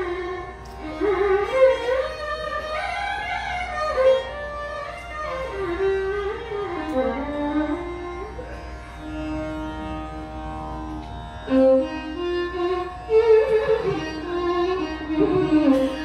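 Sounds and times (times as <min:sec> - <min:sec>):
tanpura drone: 0:00.0 - 0:16.0
violins playing gliding melody: 0:00.0 - 0:16.0.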